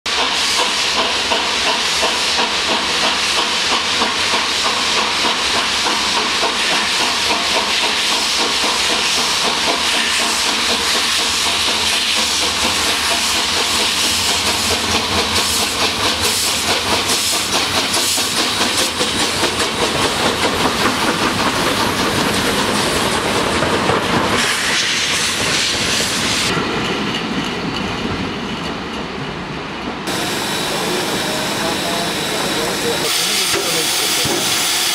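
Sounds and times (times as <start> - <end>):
steam hissing: 0.1 - 26.6, 30.1 - 34.9
steam locomotive exhaust chuffing: 0.1 - 27.1, 30.0 - 34.9.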